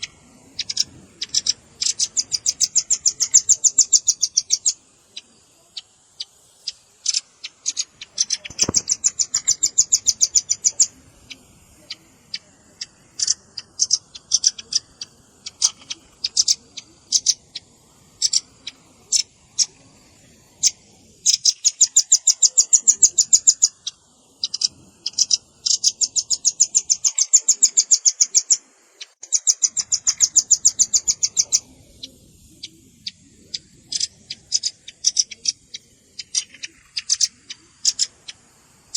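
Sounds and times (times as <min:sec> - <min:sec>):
bird trilling high chips: 0:06.2 - 0:12.0, 0:12.8 - 0:19.8, 0:20.5 - 0:38.9.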